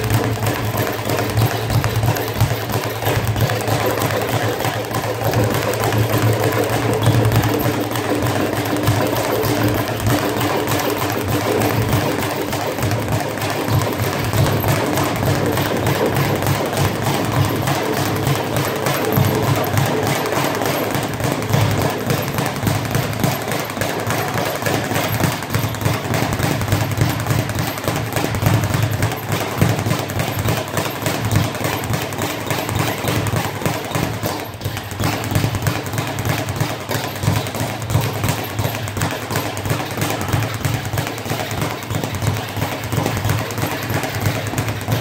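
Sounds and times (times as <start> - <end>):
speed bag rattling: 0.0 - 45.0.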